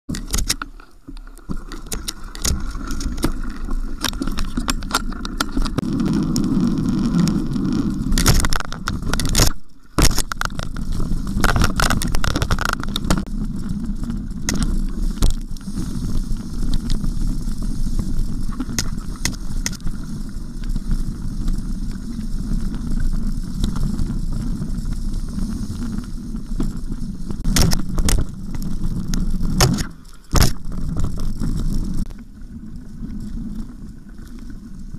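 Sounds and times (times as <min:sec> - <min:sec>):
bike knocking and rattling: 0:00.1 - 0:32.2
wind and tyres rumbling: 0:00.1 - 0:34.9.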